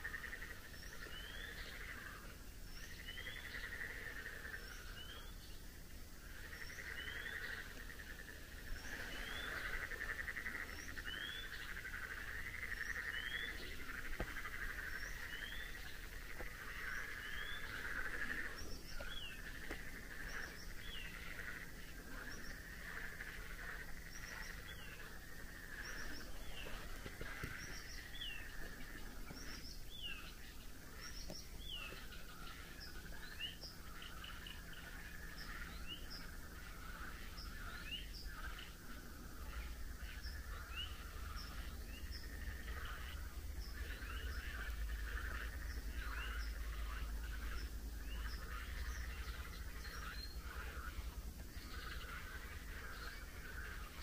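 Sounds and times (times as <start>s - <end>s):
frog chorus: 0.0s - 54.0s.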